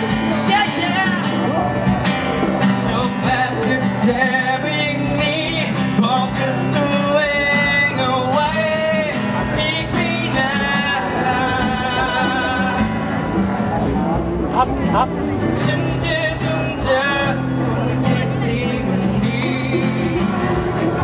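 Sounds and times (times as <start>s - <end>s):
man singing: 0.0s - 13.9s, 14.5s - 21.0s
strummed acoustic guitar: 0.0s - 21.0s.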